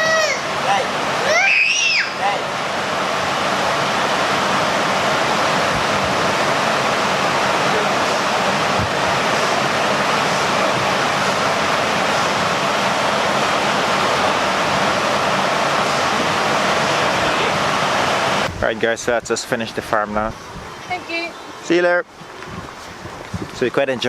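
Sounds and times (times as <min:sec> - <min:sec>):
loud steady rushing noise: 0:00.0 - 0:24.0.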